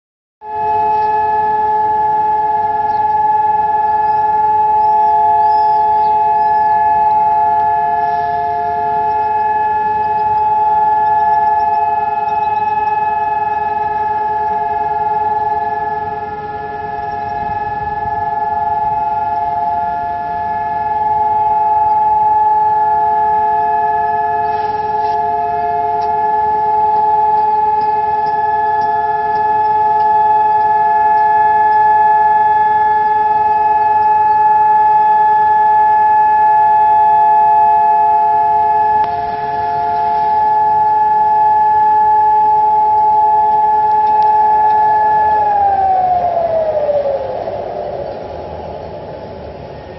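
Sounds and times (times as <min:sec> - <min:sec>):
steady civil defense siren: 0:00.4 - 0:49.9.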